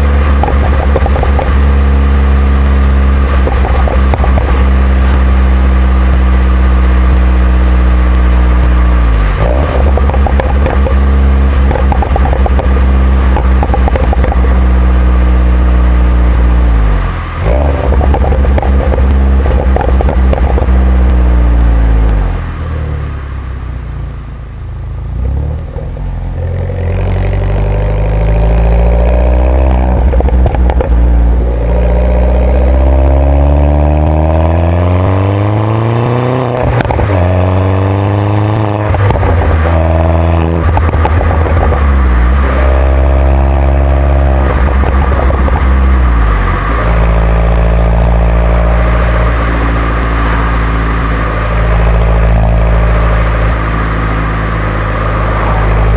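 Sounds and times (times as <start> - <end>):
car engine accelerating through gears: 0.0 - 55.9.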